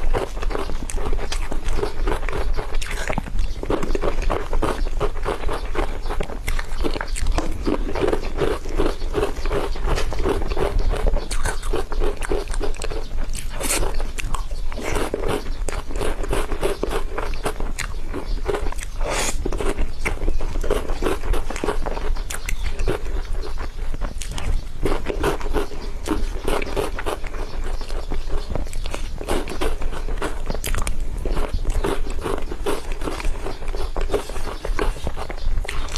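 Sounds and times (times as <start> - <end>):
wet chewing and lip smacks: 0.0 - 35.9.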